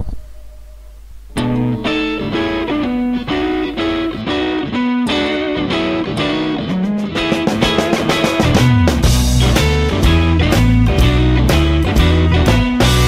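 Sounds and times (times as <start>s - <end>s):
bass notes: 0.0s - 13.0s
electric guitar chords: 0.0s - 13.0s.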